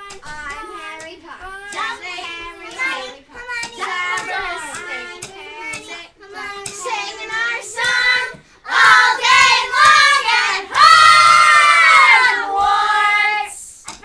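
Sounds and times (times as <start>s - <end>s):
children singing: 1.7s - 13.7s.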